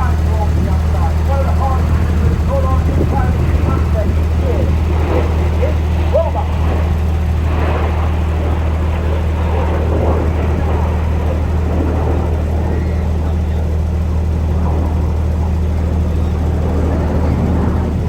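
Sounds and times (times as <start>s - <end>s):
distant jet aircraft rumble: 0.0s - 18.0s.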